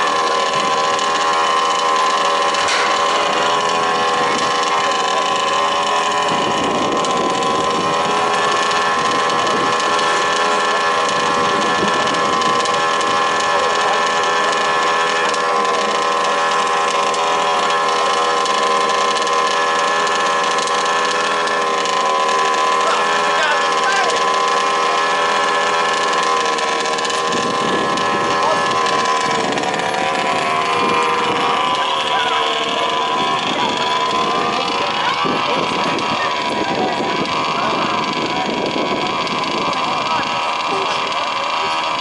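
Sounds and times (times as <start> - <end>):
rough low engine rumble: 0.0 - 42.0
small two-stroke engines running: 0.0 - 42.0.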